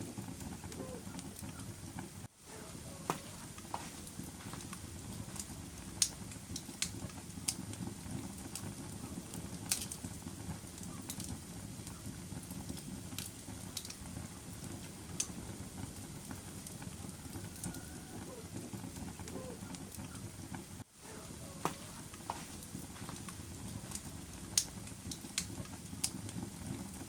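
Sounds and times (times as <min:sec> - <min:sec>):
fire crackles and pops: 0:00.0 - 0:27.0
fire flames rumbling: 0:00.0 - 0:27.0.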